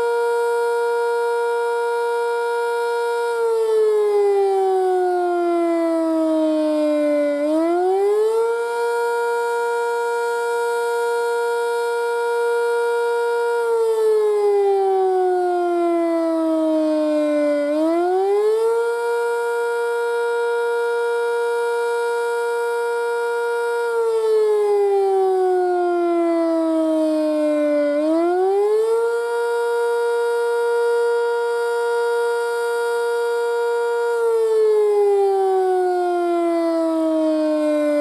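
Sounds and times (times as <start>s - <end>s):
warning siren wailing: 0.0s - 38.0s.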